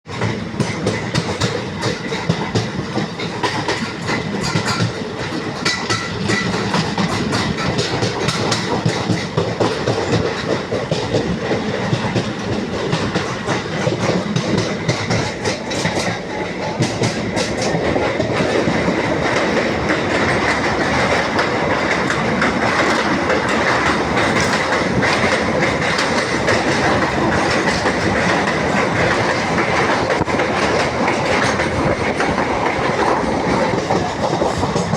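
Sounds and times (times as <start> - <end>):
train wheels clattering: 0.1 - 34.9.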